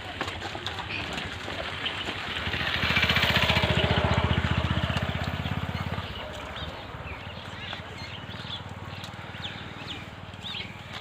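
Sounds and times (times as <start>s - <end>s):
small engine passing by: 0.0s - 11.0s.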